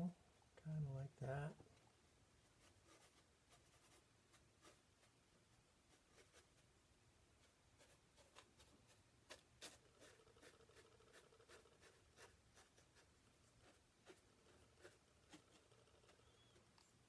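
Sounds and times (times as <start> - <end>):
bristle brush dabbing paint: 2.4 - 17.0.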